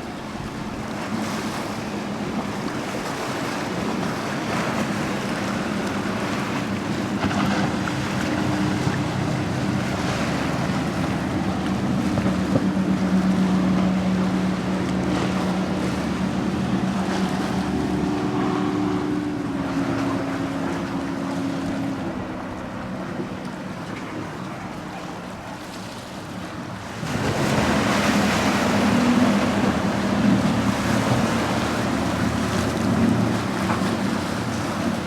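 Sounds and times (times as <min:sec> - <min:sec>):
motorboat engine droning: 0:00.0 - 0:35.0
waves washing: 0:00.0 - 0:35.0.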